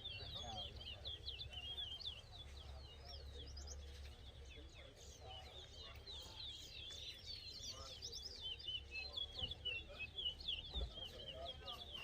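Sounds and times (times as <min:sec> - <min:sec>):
finch singing: 0:00.0 - 0:12.0.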